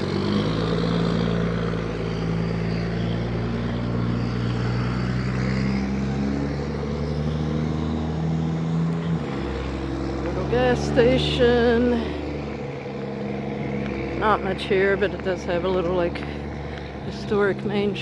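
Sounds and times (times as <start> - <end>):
car engine humming: 0.0 - 18.0
road noise: 0.0 - 18.0.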